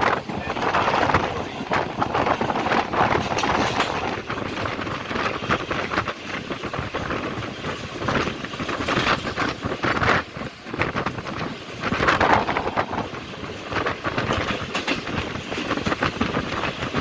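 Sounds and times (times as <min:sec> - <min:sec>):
train running noise: 0:00.0 - 0:17.0
train wheels clattering over rail joints: 0:00.0 - 0:17.0.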